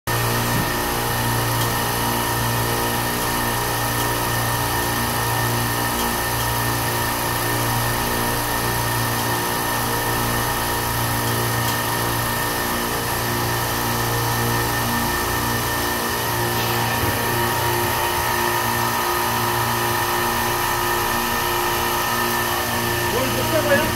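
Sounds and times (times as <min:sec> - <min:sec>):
refrigeration compressors humming: 0:00.1 - 0:23.9.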